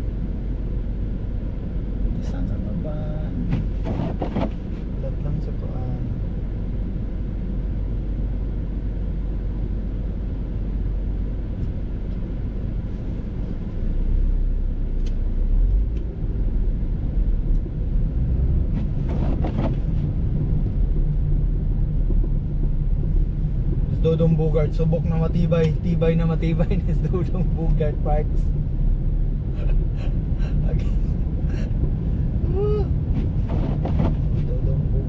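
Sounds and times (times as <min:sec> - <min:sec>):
moving car rumble: 0:00.0 - 0:35.0.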